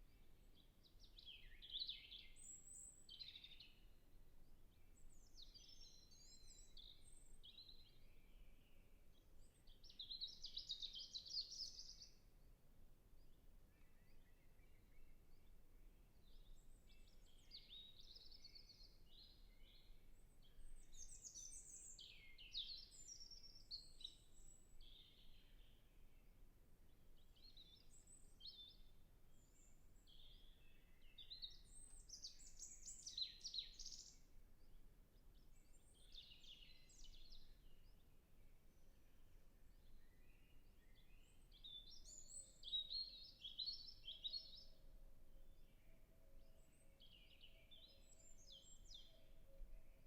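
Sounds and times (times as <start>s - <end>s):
robin singing faintly: 0.0s - 50.0s.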